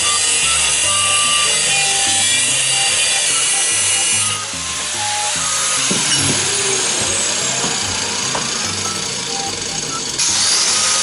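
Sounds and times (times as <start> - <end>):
angle grinder cutting steel: 0.0 - 11.0.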